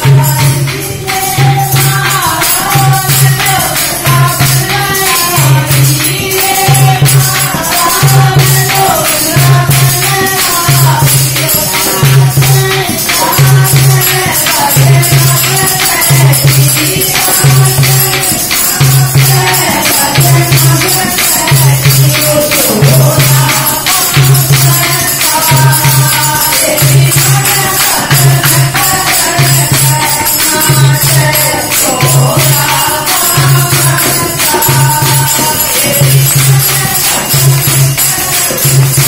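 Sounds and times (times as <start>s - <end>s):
hand drum beating: 0.0s - 39.0s
jingling percussion: 0.0s - 39.0s
women singing folk song: 0.0s - 39.0s.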